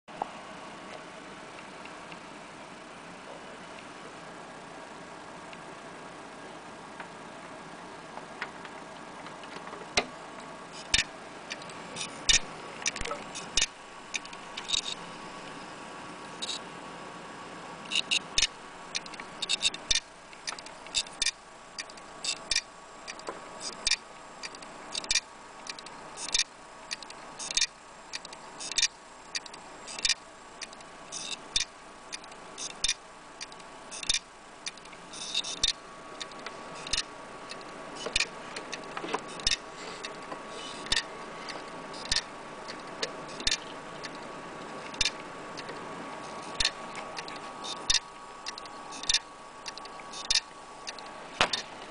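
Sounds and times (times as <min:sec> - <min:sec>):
faint steady whine: 0:00.1 - 0:51.9
hard drive clicking: 0:08.1 - 0:16.7, 0:17.8 - 0:51.9.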